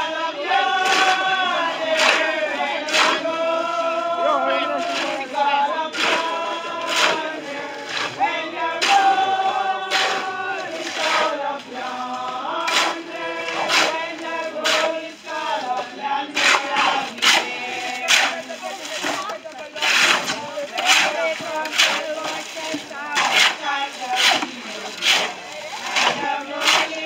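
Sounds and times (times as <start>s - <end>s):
group singing in chorus: 0.0s - 27.0s.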